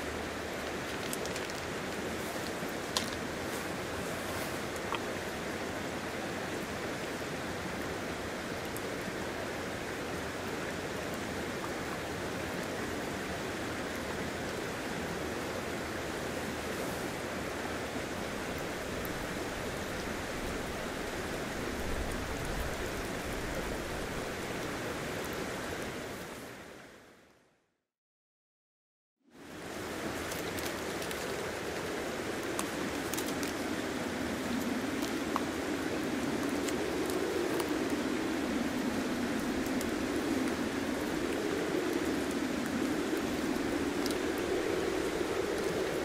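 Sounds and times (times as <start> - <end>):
river rushing: 0.0 - 26.9, 29.4 - 46.0.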